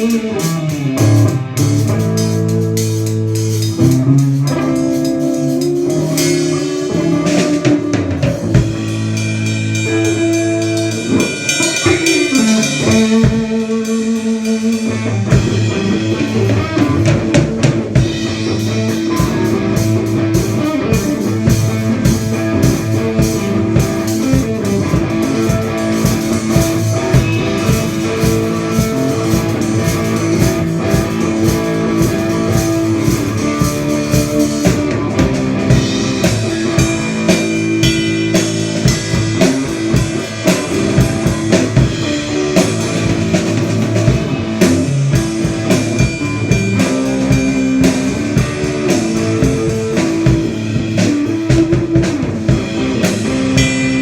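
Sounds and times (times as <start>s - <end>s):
drum beats: 0.0s - 54.0s
guitar: 0.0s - 54.0s.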